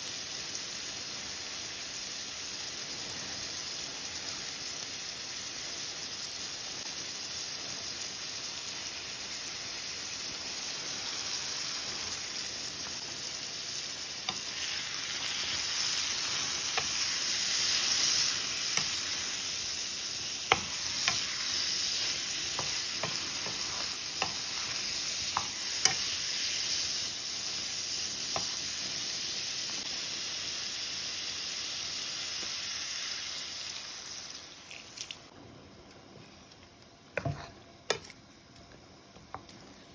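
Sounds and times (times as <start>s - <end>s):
eggplant sizzling in oil: 0.0s - 35.4s.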